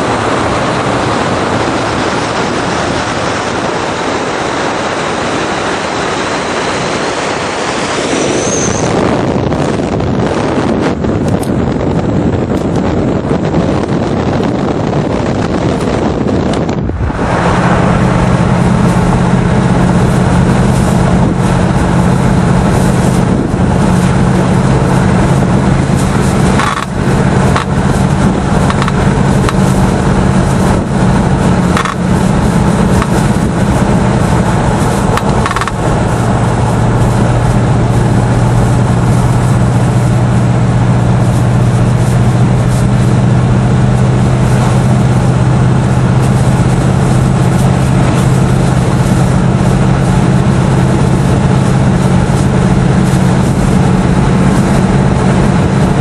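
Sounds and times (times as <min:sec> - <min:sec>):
car engine droning: 0:00.0 - 0:56.0
wind rush: 0:00.0 - 0:56.0.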